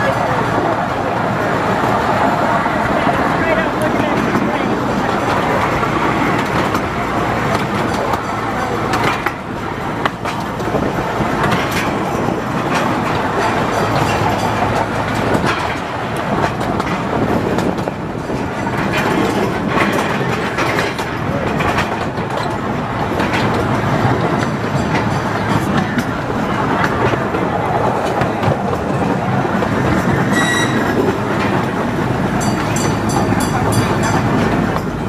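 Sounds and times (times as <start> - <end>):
train rolling: 0.0 - 35.0
wheels clacking over rail joints: 0.0 - 35.0.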